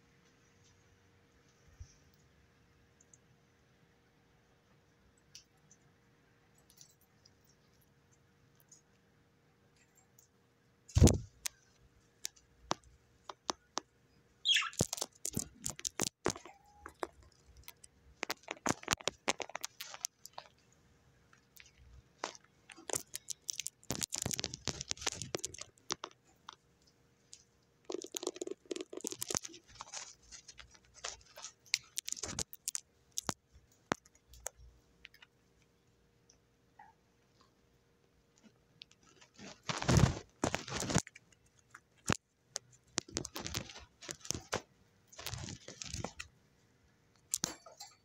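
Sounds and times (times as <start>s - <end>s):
bird beak crunching food: 5.2s - 9.1s, 9.7s - 37.5s, 38.4s - 46.4s, 47.1s - 47.9s.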